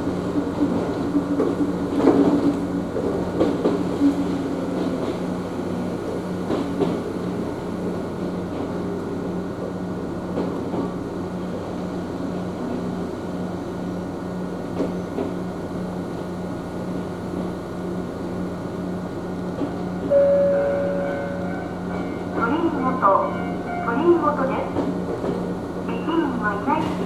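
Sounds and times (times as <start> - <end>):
train cabin hum: 0.0 - 27.0.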